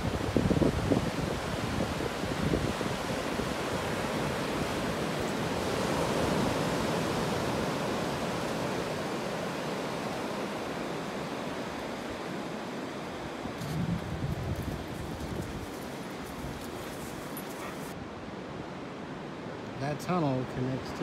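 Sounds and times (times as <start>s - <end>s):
surf washing onto beach: 0.0s - 17.2s.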